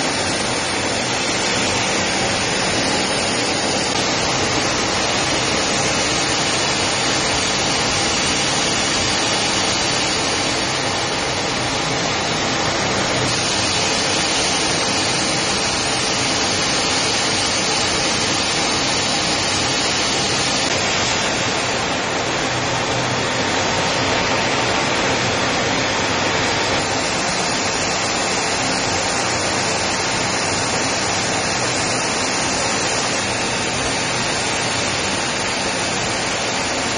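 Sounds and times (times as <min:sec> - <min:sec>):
jet engine and airflow hiss: 0:00.0 - 0:36.9.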